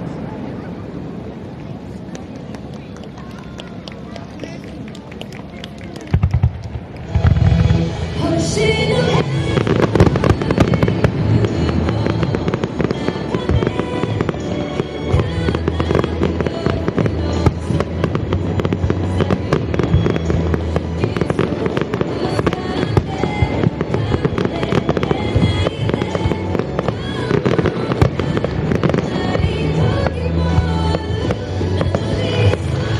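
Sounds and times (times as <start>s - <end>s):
fireworks bursting and crackling: 0.0s - 32.9s
music over loudspeakers: 6.2s - 32.9s.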